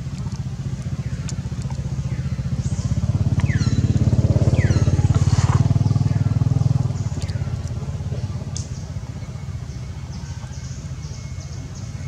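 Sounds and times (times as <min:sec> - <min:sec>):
engine throbbing: 0:00.0 - 0:12.0.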